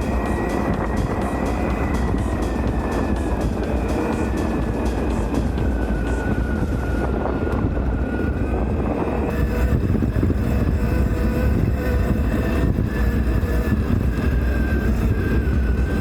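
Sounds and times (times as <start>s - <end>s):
electric motor whine: 0.0s - 16.0s
wind rumble on microphone: 0.0s - 16.0s.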